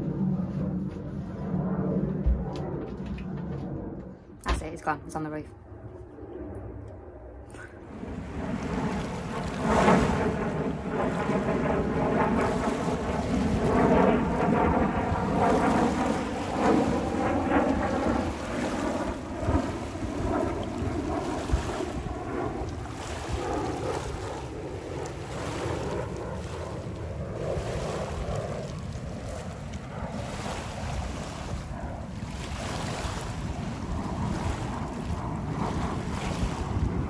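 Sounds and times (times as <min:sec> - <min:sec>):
jet engine roar: 0:00.0 - 0:37.0
wind buffeting microphone: 0:05.7 - 0:37.0.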